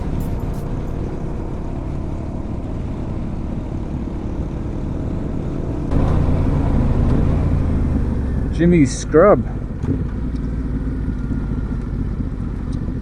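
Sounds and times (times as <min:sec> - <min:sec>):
motorcycle engine running: 0:00.0 - 0:08.6, 0:09.2 - 0:13.0.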